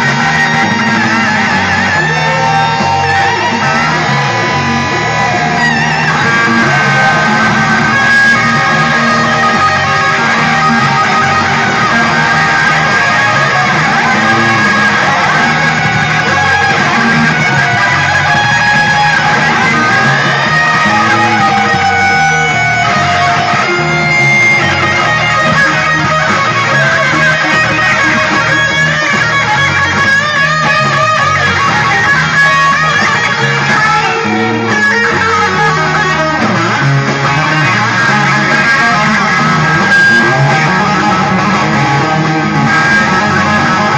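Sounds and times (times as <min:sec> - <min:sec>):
electric guitar lines: 0:00.0 - 0:43.9
pulsing bass line: 0:00.0 - 0:43.9.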